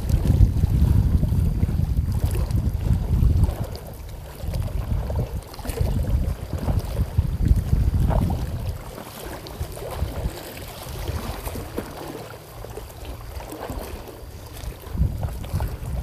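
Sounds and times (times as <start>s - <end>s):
water lapping against breakwater: 0.0s - 16.0s
wind buffeting microphone: 0.0s - 16.0s.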